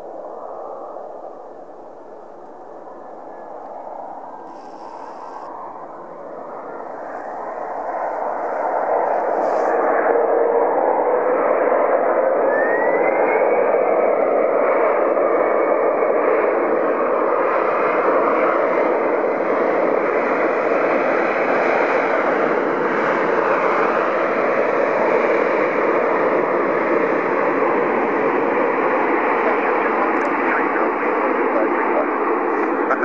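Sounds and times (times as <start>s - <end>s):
high engine whine: 0.0s - 33.0s
jet engines roaring: 0.0s - 33.0s.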